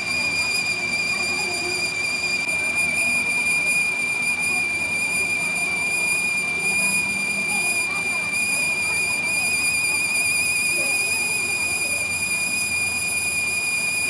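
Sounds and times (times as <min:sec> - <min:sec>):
machine tool whining: 0:00.0 - 0:14.0.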